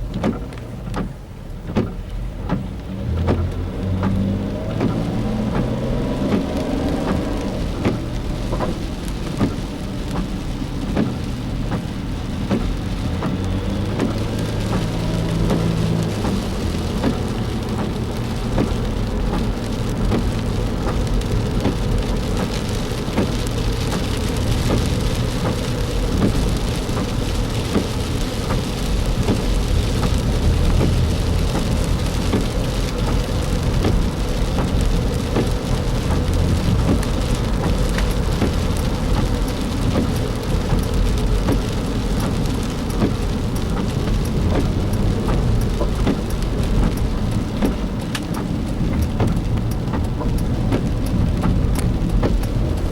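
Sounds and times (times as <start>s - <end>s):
car engine and tyres rumbling: 0.0s - 52.9s
rain hitting a car: 0.0s - 52.9s.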